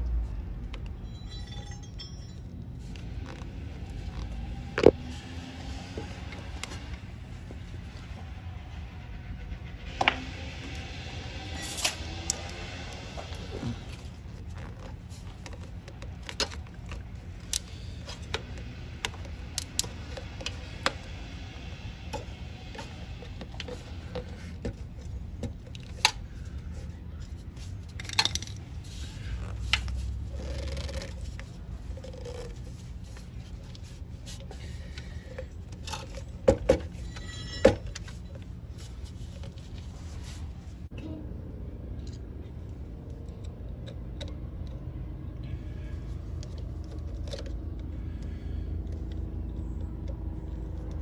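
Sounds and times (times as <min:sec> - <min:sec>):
rubber hose scraping and clicking: 0:02.8 - 0:08.7, 0:09.9 - 0:40.9, 0:46.1 - 0:51.0.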